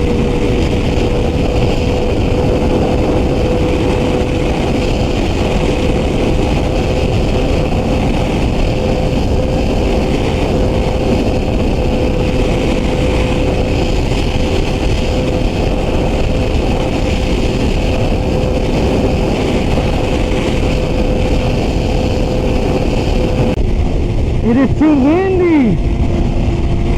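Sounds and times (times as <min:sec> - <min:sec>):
motorcycle engine steady pitch: 0:00.0 - 0:26.9
wind rush on microphone: 0:00.0 - 0:26.9.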